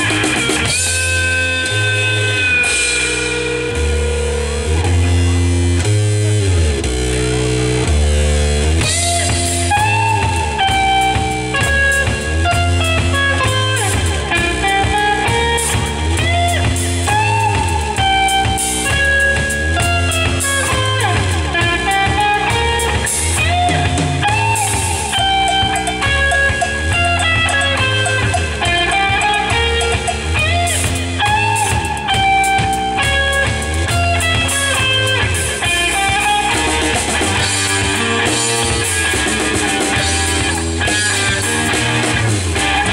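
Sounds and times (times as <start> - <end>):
drum kit: 0.0 - 42.9
electric bass: 0.0 - 42.9
electric guitar lead: 0.0 - 42.9.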